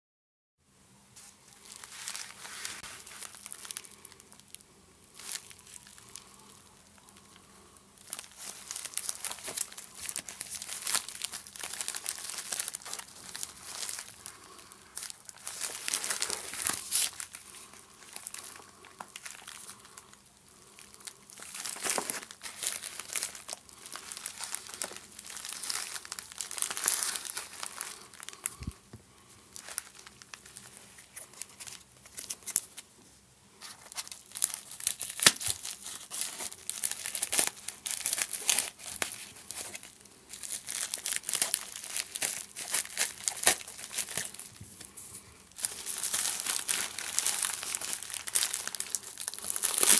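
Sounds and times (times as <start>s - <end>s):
packaging crinkling: 1.2s - 32.9s, 33.6s - 49.9s.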